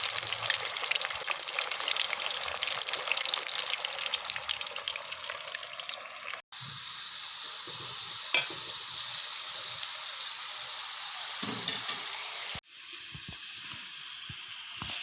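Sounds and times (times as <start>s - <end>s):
fries sizzling in hot oil: 0.0s - 15.0s.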